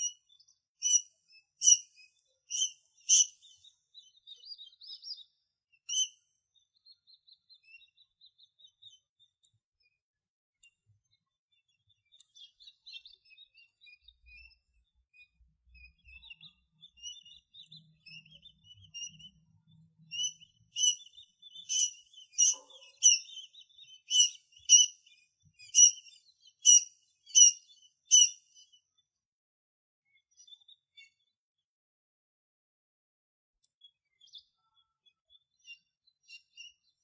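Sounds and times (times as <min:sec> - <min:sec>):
tiny birds chirping: 0:00.0 - 0:10.0, 0:10.6 - 0:29.0, 0:30.1 - 0:31.3, 0:33.6 - 0:37.0.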